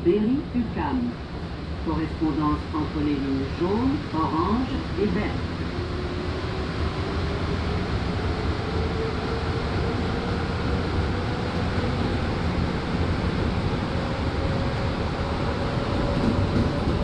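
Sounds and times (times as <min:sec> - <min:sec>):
subway train running noise: 0:00.0 - 0:17.0.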